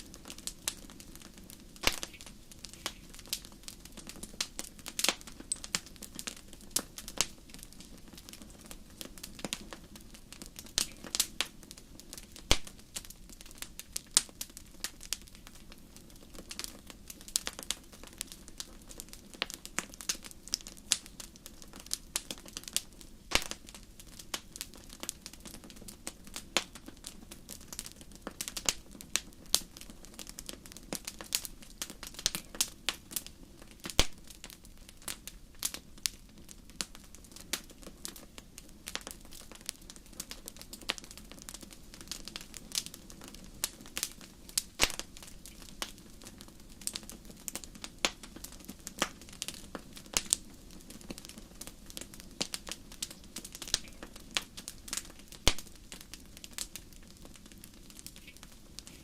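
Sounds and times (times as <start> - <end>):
hiss of flames: 0.0 - 59.0
wood fire crackling and popping: 0.0 - 59.0.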